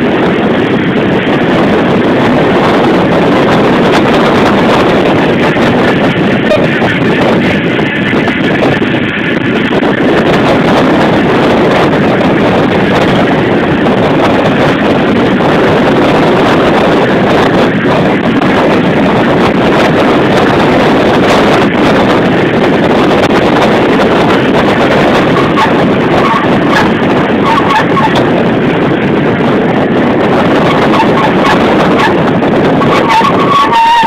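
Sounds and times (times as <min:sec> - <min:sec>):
car road and engine noise: 0:00.0 - 0:34.0
wind buffeting microphone: 0:00.0 - 0:34.0.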